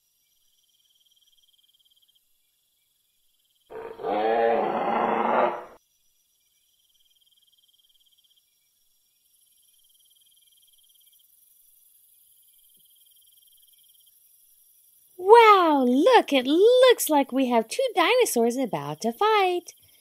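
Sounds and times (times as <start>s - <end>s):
faint cricket chirping: 0.0s - 20.0s.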